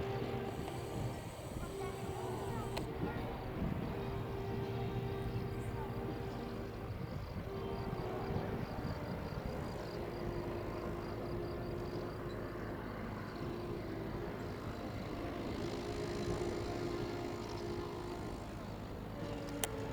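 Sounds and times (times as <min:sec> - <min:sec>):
small aircraft engine running: 0:00.0 - 0:19.9.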